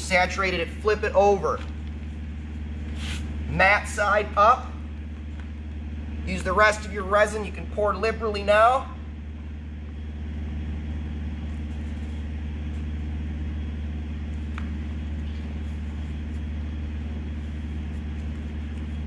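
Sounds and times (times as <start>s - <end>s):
low mechanical motor hum: 0.0s - 19.0s.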